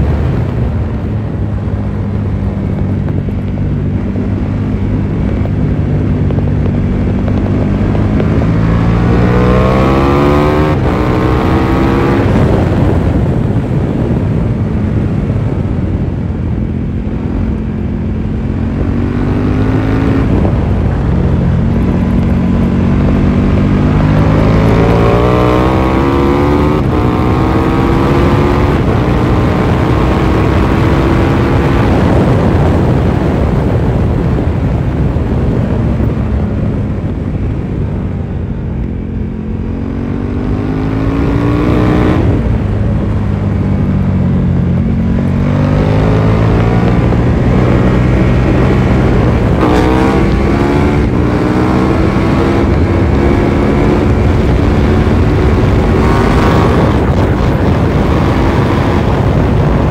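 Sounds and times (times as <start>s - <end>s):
motorcycle engine accelerating: 0.0s - 59.9s
wind noise: 0.0s - 59.9s.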